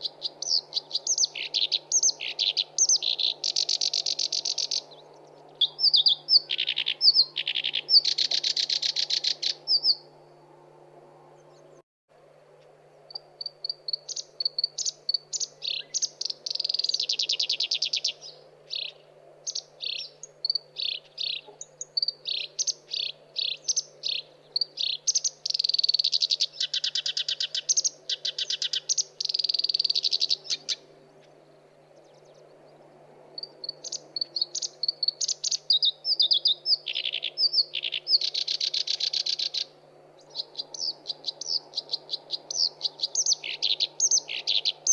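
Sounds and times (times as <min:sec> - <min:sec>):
warbler chattering song: 0:00.0 - 0:10.1, 0:13.1 - 0:32.5, 0:33.4 - 0:44.9
faint low hum: 0:00.0 - 0:44.9.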